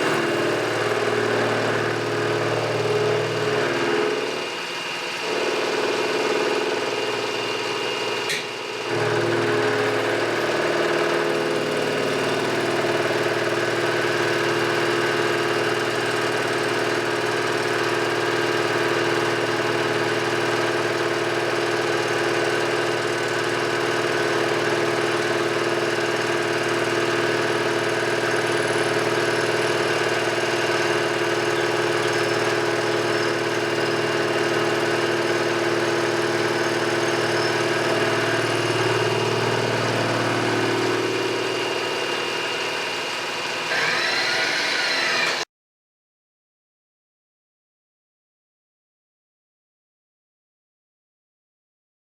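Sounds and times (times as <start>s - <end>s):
machine tool motor and spindle running: 0.0s - 45.4s.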